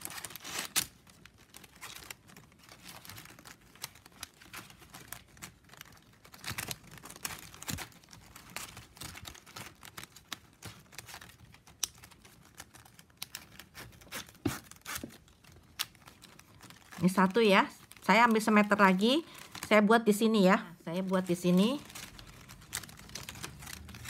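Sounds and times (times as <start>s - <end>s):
plastic strips crackling and clicking: 0.0s - 24.0s.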